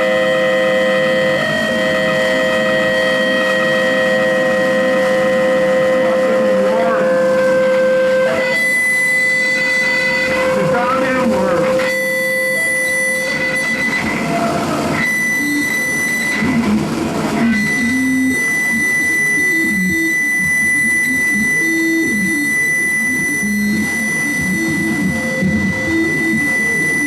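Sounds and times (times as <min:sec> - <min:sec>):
churning low noise layer: 0:00.0 - 0:27.0
high-pitched whine: 0:00.0 - 0:27.0.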